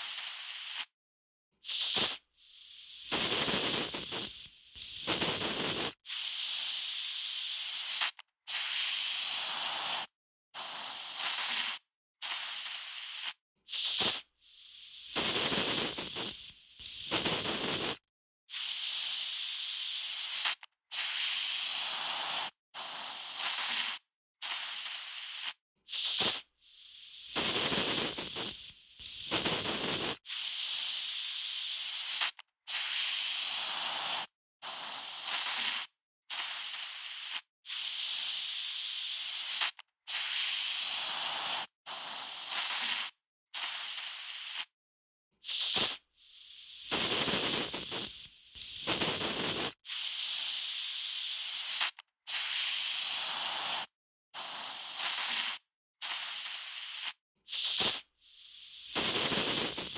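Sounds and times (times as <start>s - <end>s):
aerosol spray can hissing: 0.0s - 0.9s, 1.6s - 44.7s, 45.4s - 59.9s.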